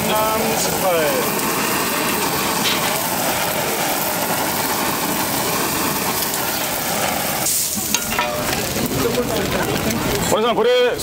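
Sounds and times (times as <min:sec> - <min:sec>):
butane torch hissing: 0:00.0 - 0:10.4.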